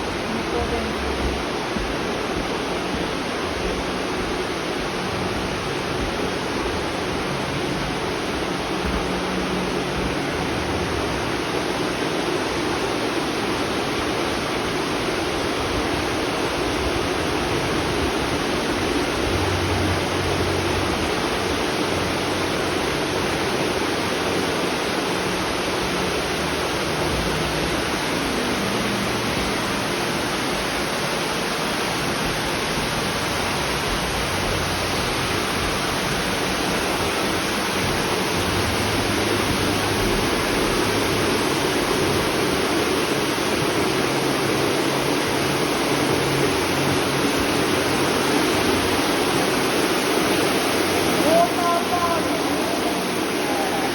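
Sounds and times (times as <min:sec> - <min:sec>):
spring water rushing and splashing: 0:00.0 - 0:53.9.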